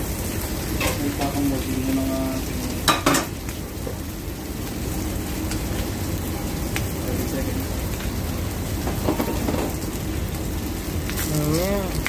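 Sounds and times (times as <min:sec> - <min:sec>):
burger patties sizzling on griddle: 0:00.0 - 0:12.0.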